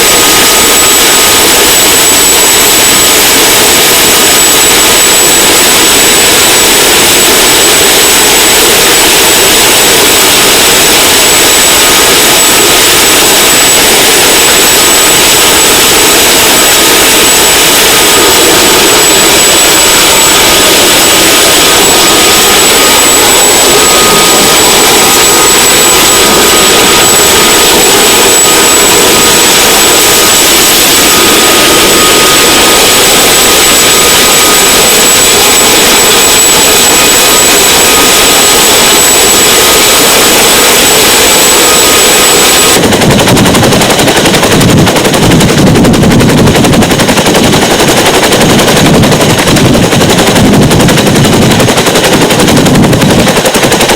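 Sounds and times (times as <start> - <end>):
helicopter rotor chop: 0.0 - 53.9
helicopter turbine whine and roar: 0.0 - 53.9.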